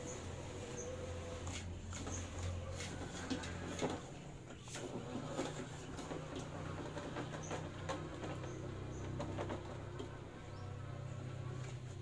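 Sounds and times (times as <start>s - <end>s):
electric motors humming: 0.0s - 12.0s.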